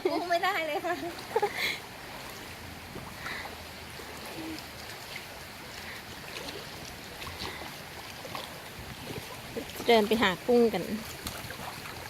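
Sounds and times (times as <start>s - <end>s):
small water splashes: 0.0s - 12.0s
stream water over rocks: 0.0s - 12.0s.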